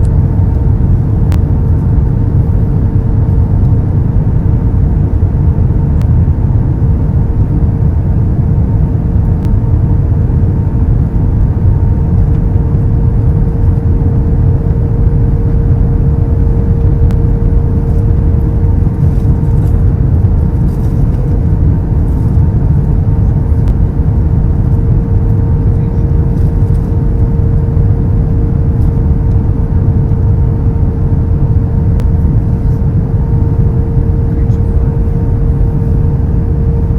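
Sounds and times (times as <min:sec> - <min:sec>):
constant hum: 0:00.0 - 0:36.9
jet engine rumble: 0:00.0 - 0:36.9.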